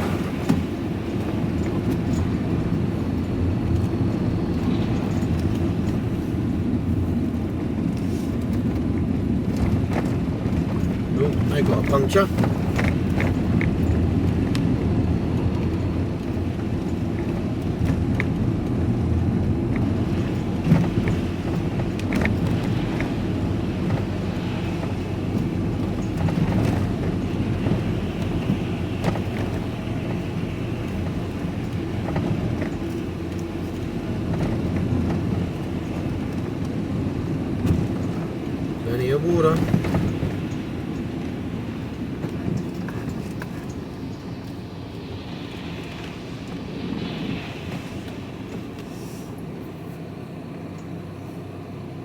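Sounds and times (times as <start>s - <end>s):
lorry engine and road noise: 0.0s - 52.0s.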